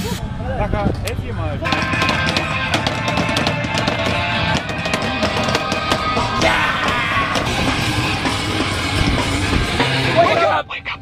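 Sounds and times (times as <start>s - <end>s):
rock music with drum beat: 1.6s - 10.5s.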